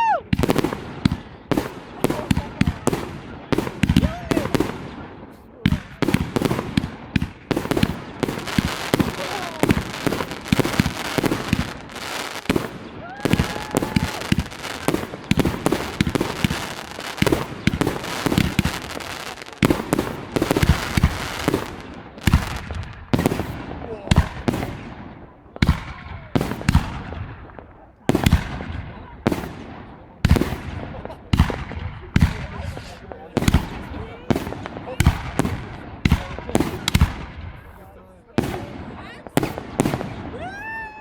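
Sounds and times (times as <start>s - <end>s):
fireworks banging: 0.0s - 41.0s.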